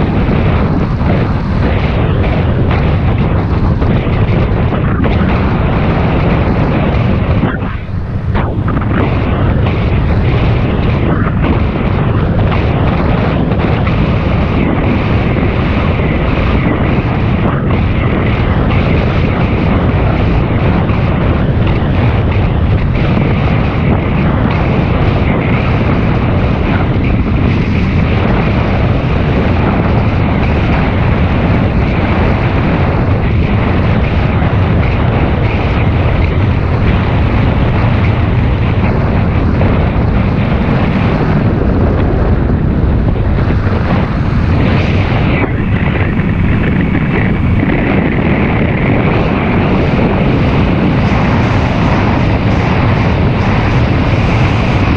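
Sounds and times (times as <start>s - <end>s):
wind rumbling on microphone: 0.0s - 54.9s.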